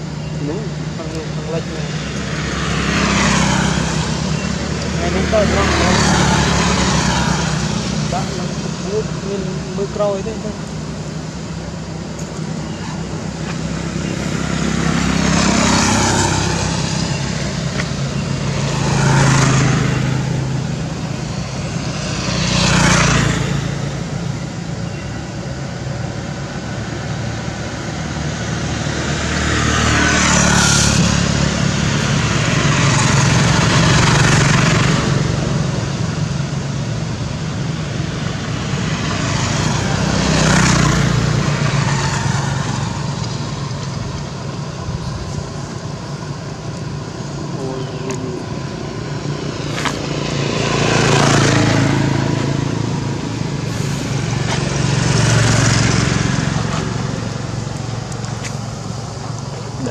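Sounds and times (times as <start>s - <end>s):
low engine hum: 0.0s - 59.9s
vehicles passing: 0.0s - 59.9s.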